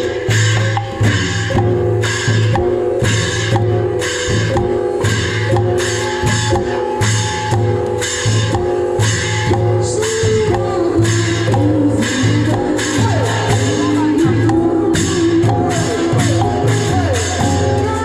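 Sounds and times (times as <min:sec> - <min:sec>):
music with steady drum beat: 0:00.0 - 0:18.0.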